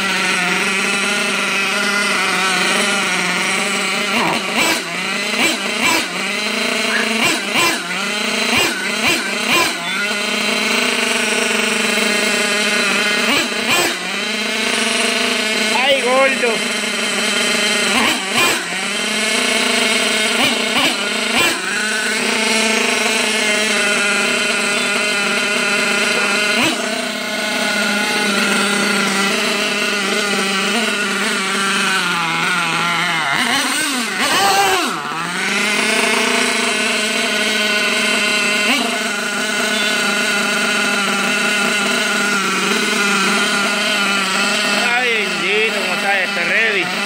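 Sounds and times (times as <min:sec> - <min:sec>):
rc car engine buzzing: 0:00.0 - 0:47.0.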